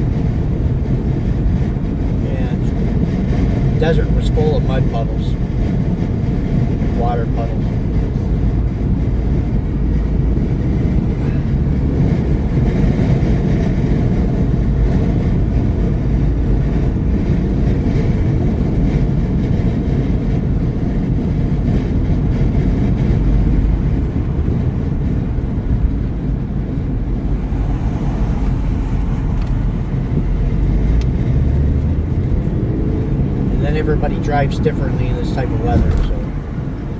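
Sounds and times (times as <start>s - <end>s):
car road and engine noise: 0.0s - 36.9s.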